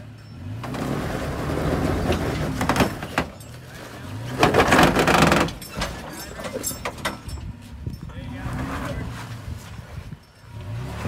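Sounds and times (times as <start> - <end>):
truck engine working hard: 0.0 - 11.0.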